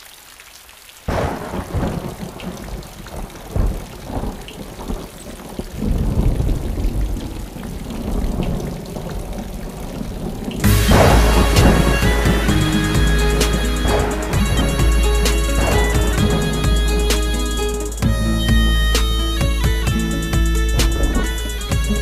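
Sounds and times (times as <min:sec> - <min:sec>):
steady rain: 0:00.0 - 0:22.0
rolling thunder rumbles: 0:01.1 - 0:22.0
thunder clap: 0:01.1 - 0:22.0.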